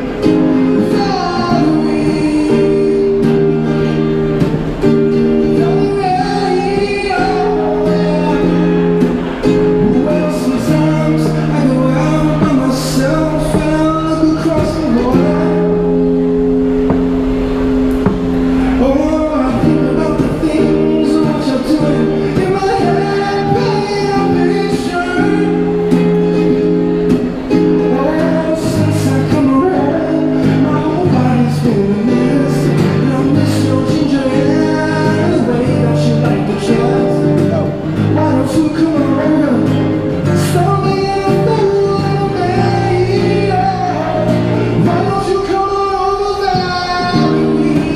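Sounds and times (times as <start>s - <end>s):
man singing into microphone: 0.0s - 16.3s, 18.6s - 47.9s
amplified acoustic guitar: 0.0s - 47.9s.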